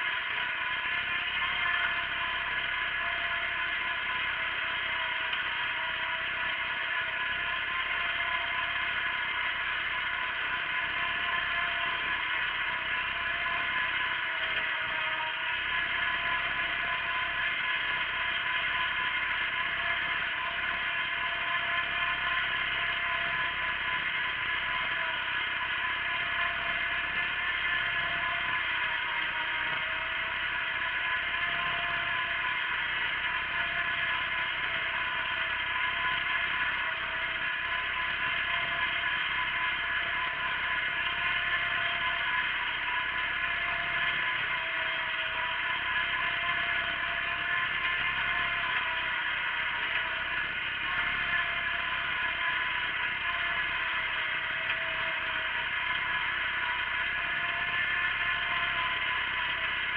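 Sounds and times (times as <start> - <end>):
faint wavering whine: 0.0 - 59.9
garden tractor engine running: 0.0 - 59.9.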